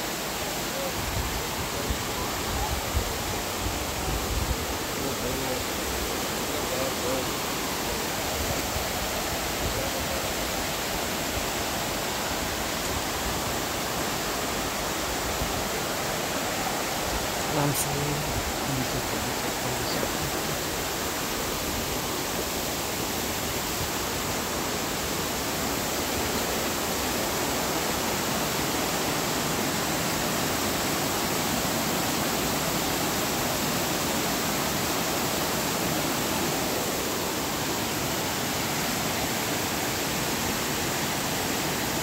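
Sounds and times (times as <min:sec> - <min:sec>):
water rushing over rocks: 0:00.0 - 0:42.0.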